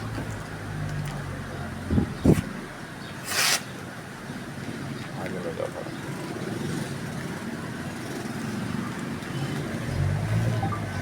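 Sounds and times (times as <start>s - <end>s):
vehicle engine rumble: 0.0s - 3.2s, 3.8s - 11.0s
road traffic noise: 0.0s - 11.0s.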